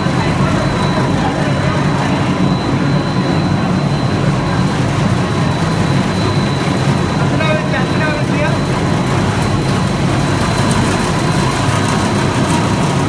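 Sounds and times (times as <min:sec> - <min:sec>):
high-pitched machine whine: 0:00.0 - 0:13.0
production-line machinery drone: 0:00.0 - 0:13.0.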